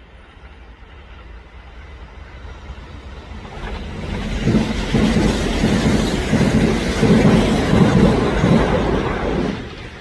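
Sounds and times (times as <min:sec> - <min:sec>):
train wheels beating over rail joints: 0:00.0 - 0:10.0.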